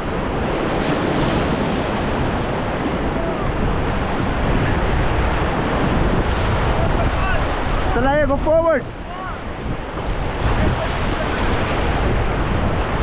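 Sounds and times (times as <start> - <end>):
rushing white water: 0.0 - 13.0
wind buffeting microphone: 0.0 - 13.0.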